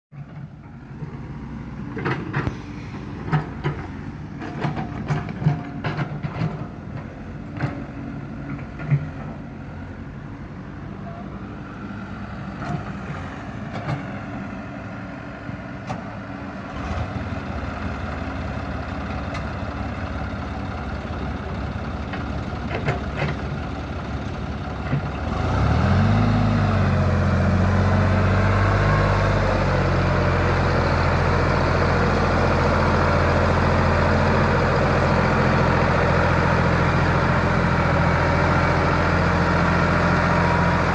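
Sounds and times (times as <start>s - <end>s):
engine knocks and clatter: 0.1s - 9.7s, 12.5s - 14.4s, 15.7s - 40.9s
tractor diesel engine running: 0.2s - 40.9s.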